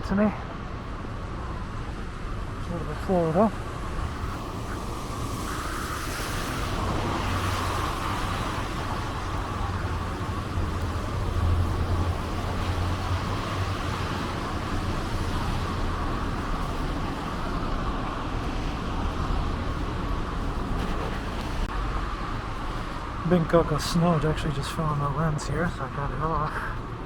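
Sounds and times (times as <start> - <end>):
car engines rumbling: 0.0 - 27.0.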